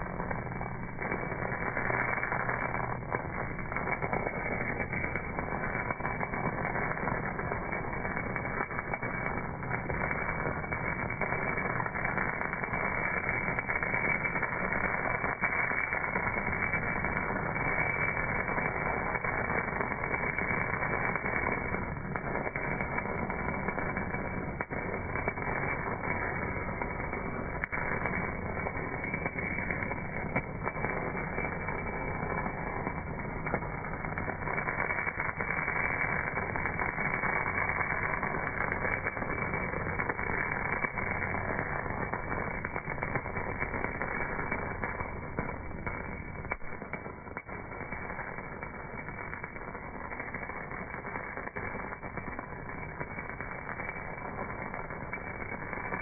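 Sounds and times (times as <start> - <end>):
welding arc crackling hiss: 0.0 - 56.0.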